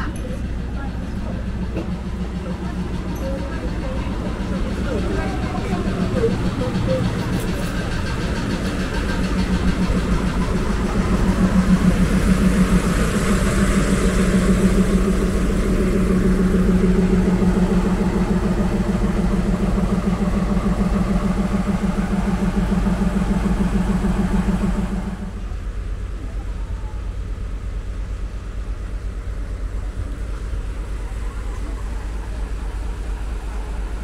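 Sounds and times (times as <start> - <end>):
diesel locomotive engine droning: 0.0 - 34.0.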